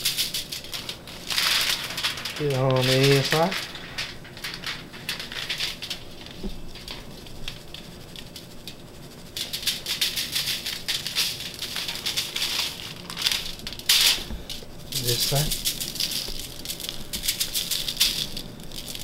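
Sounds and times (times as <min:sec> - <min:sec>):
aluminium foil crinkling: 0:00.0 - 0:19.0
spice shaker rattling: 0:00.0 - 0:19.0.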